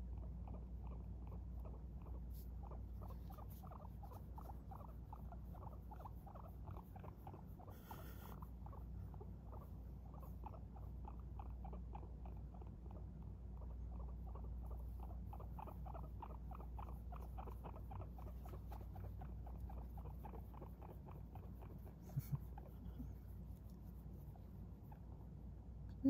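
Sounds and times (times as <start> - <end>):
guinea pig soft calls: 0.0 - 26.0.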